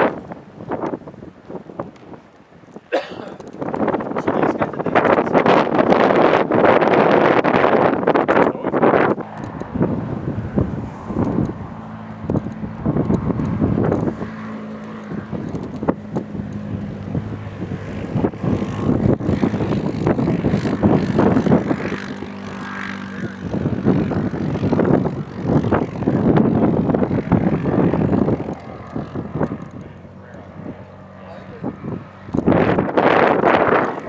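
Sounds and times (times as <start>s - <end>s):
off-road vehicle engine: 0.0s - 34.0s.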